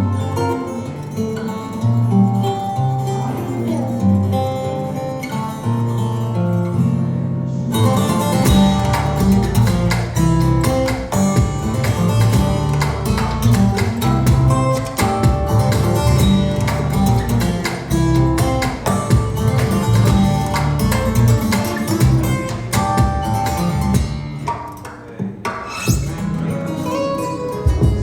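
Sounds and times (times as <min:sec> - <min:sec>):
plucked guitar music with percussion: 0:00.0 - 0:28.0.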